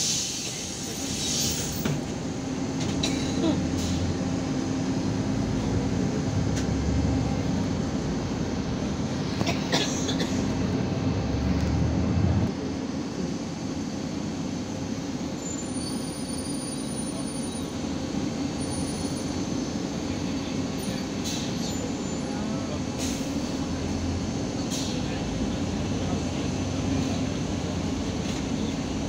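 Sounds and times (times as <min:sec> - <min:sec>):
rattle inside bus: 0:00.0 - 0:12.5, 0:14.5 - 0:29.0
bus engine rumble with whine: 0:00.0 - 0:29.0
road noise: 0:00.0 - 0:29.0.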